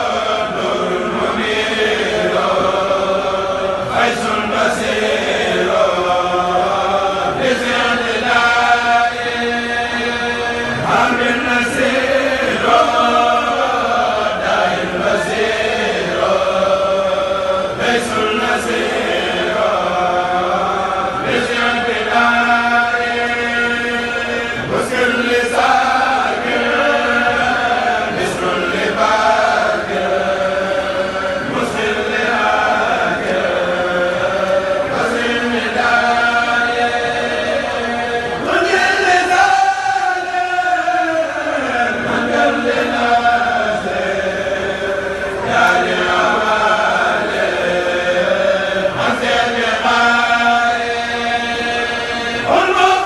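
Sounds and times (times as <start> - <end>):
men chanting religious poems: 0.0 - 53.0.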